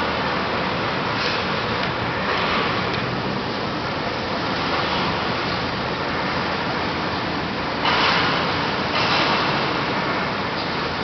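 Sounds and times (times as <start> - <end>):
railway station hall noise: 0.0 - 11.0.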